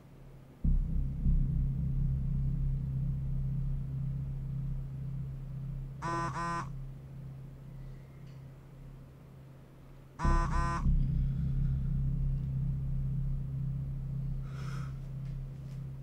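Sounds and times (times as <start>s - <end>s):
low dark drone: 0.6s - 16.0s.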